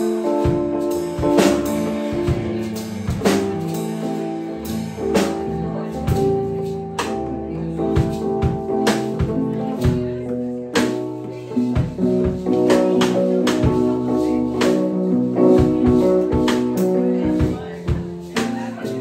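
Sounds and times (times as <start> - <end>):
drum hits: 0.0 - 18.8
bass guitar: 0.0 - 19.0.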